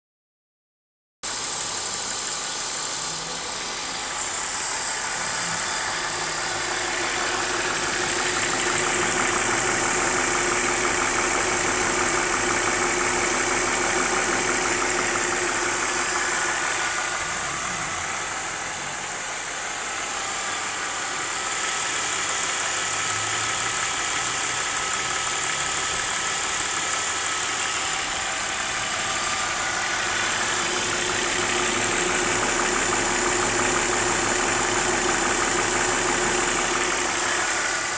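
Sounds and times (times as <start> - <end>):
car engine idling: 1.3 - 37.9
fast engine ticking: 1.3 - 37.9.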